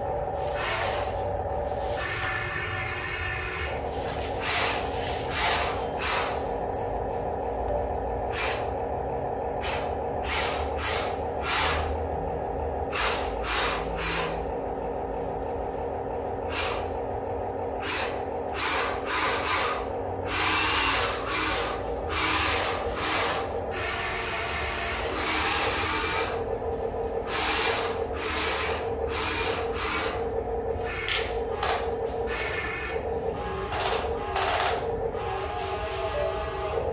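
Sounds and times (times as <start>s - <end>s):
toy excavator motors whining: 0.0s - 7.0s, 7.6s - 8.9s, 9.6s - 14.6s, 16.4s - 17.0s, 17.8s - 36.9s.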